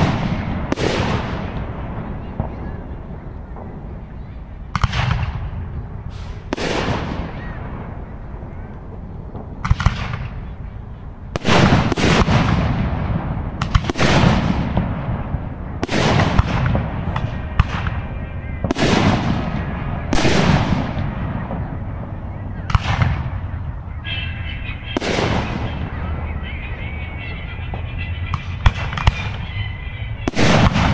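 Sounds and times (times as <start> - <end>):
fireworks booming with echo: 0.0 - 30.9.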